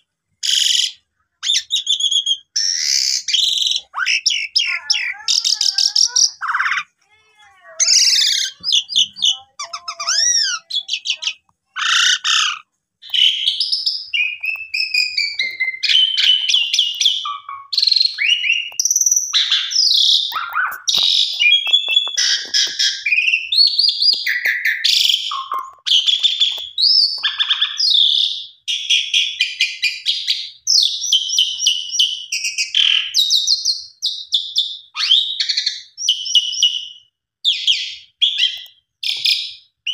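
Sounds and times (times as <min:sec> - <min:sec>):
bird singing whistles and rattles: 0:07.8 - 0:39.9.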